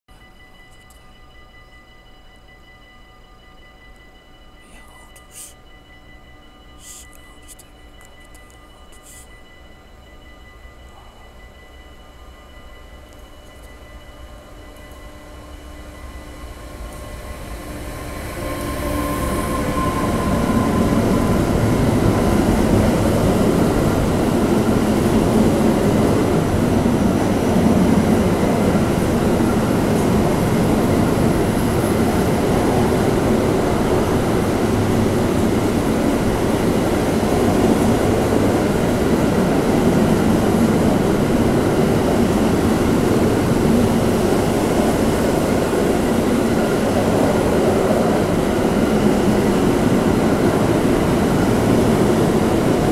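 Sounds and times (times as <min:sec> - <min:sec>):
freight train wheels rumbling: 0:05.6 - 0:52.9.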